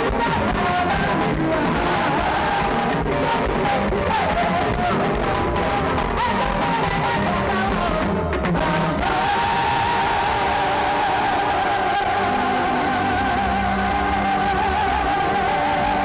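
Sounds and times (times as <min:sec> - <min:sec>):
loud music with singing: 0:00.0 - 0:16.0.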